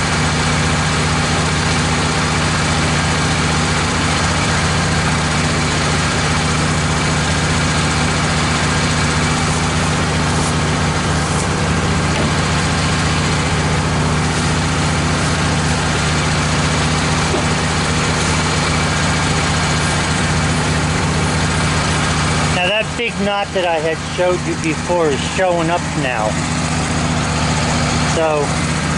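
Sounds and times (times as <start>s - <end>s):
band sawmill cutting log: 0.0s - 28.9s.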